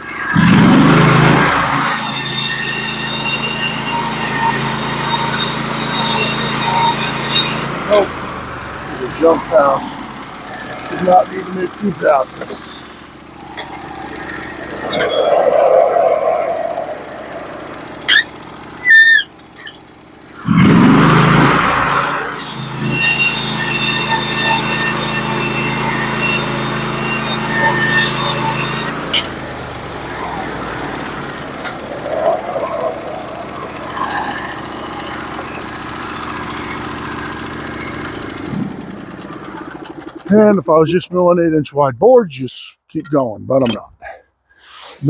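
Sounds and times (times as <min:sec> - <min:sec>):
high squeak and squeal: 0:00.0 - 0:40.5
band blade whine: 0:00.0 - 0:41.0
sawmill engine running: 0:00.0 - 0:43.1.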